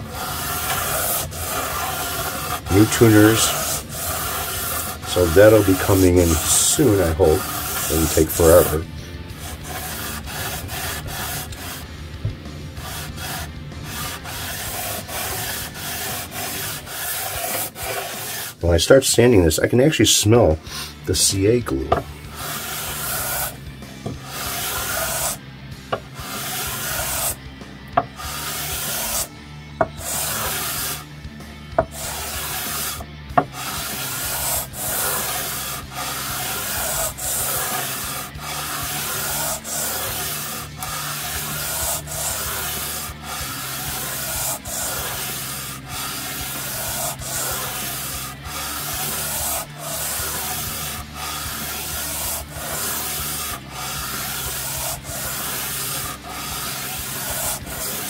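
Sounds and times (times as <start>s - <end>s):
sandpaper rubbing on wood: 0.0s - 11.9s, 12.8s - 18.6s, 20.7s - 27.4s, 28.0s - 31.1s, 31.7s - 58.0s.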